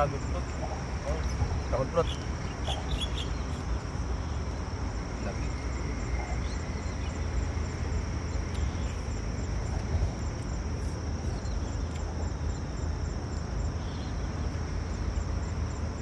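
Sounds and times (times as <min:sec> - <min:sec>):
insect chirping: 0:00.0 - 0:16.0
insects buzzing: 0:00.0 - 0:16.0
steady low rumble: 0:00.0 - 0:16.0.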